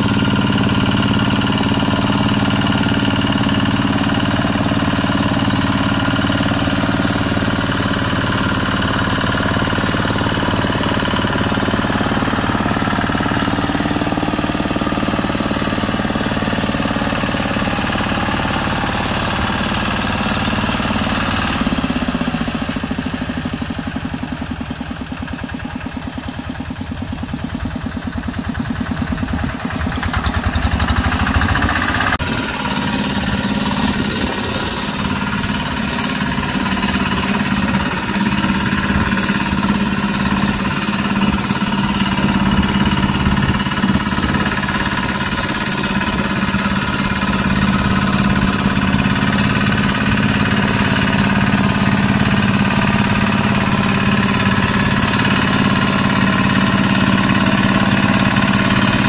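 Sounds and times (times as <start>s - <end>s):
diesel engine pulsing: 0.0s - 59.0s.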